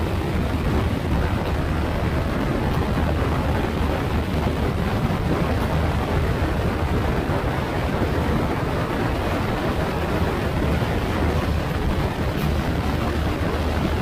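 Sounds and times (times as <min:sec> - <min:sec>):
scooter engine drone: 0:00.0 - 0:14.0
wind and road noise: 0:00.0 - 0:14.0.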